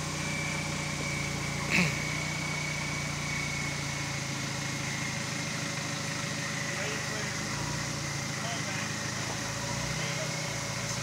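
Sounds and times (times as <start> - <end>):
diesel engine running at low revs: 0.0 - 11.0
steady high whine: 0.0 - 11.0.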